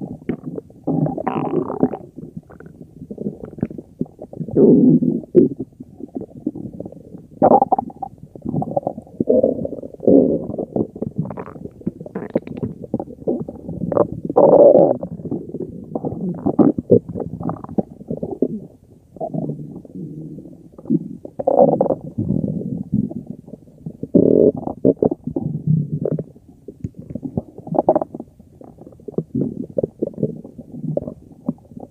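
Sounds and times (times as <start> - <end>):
stomach growling: 0.0 - 31.9.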